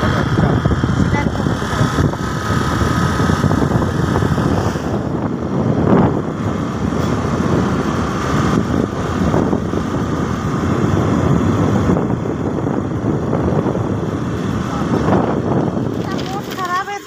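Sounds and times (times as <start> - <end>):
scooter engine running: 0.0 - 17.0
wind buffeting microphone: 0.0 - 17.0.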